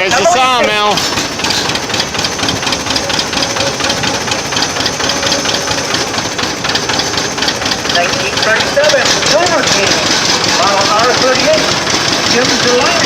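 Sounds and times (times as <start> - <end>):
old tractor engine running: 0.0 - 13.0.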